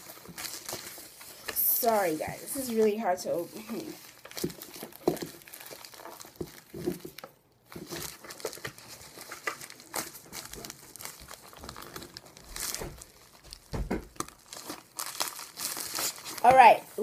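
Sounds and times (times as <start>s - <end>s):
plastic package crinkling and tearing: 0.0s - 17.0s.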